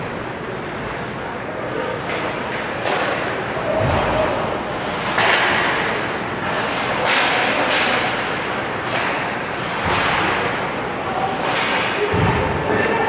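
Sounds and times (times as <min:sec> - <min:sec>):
sticks and puck clacking: 0:01.8 - 0:13.0.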